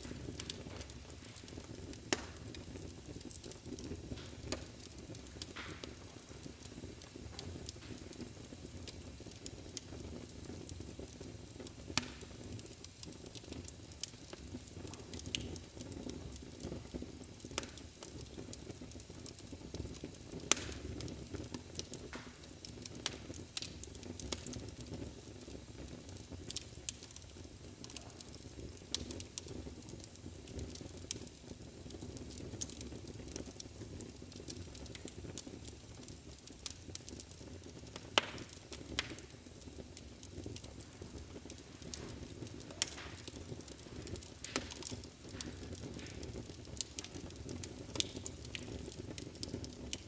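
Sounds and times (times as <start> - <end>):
fire crackling and popping: 0.0 - 50.0
wood fire burning: 0.0 - 50.0.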